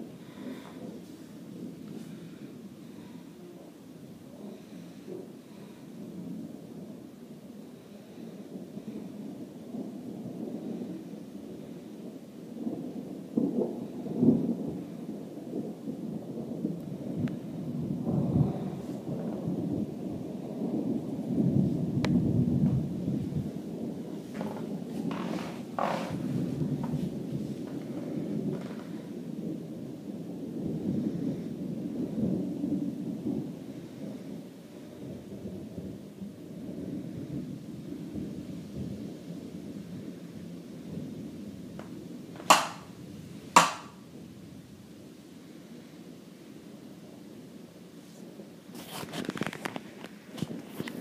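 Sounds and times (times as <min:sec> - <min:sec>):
rolling thunder: 0:00.0 - 0:51.0.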